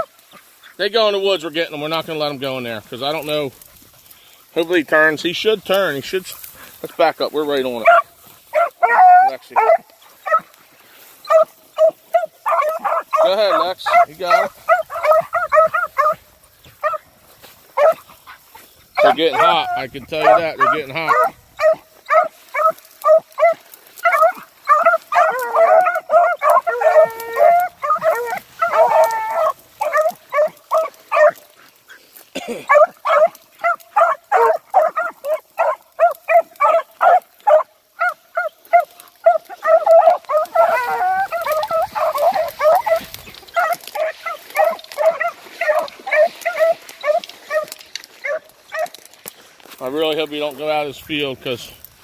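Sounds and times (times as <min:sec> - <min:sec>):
hounds baying: 0:00.0 - 0:51.6.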